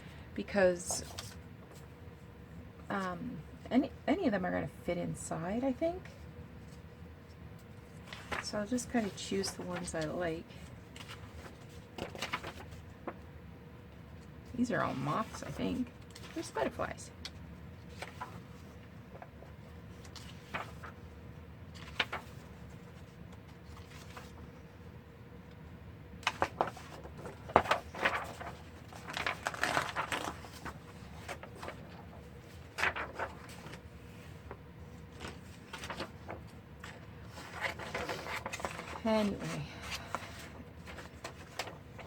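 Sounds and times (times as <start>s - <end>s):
paper rustling and crinkling: 0.8s - 2.0s, 6.1s - 13.4s, 14.0s - 24.7s, 26.2s - 42.0s.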